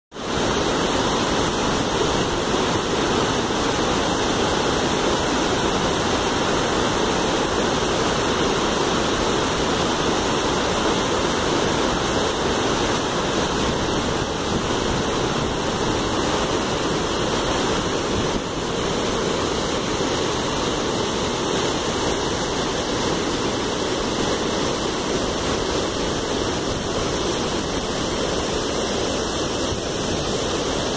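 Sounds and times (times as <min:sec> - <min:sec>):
waterfall pouring into pool: 0:00.2 - 0:30.9.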